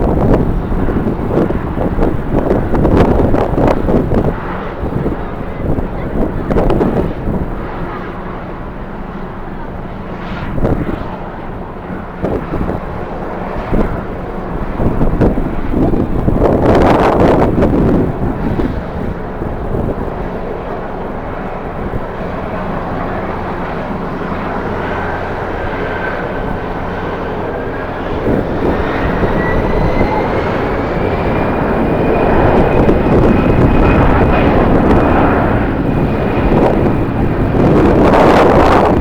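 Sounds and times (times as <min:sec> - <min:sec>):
jet engines passing: 0:00.0 - 0:39.0
thin engine whine: 0:00.0 - 0:39.0
wind buffeting microphone: 0:00.0 - 0:39.0.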